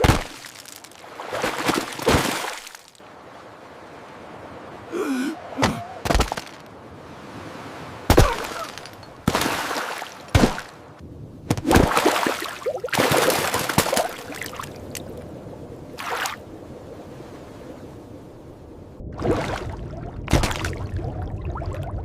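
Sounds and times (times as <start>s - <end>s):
water splashes: 0.0s - 10.9s, 11.5s - 15.2s, 16.0s - 16.4s, 19.1s - 22.0s.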